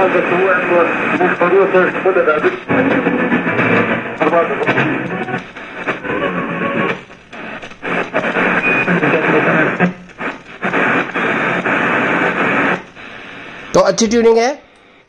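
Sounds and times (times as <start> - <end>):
radio static: 0.0 - 15.0.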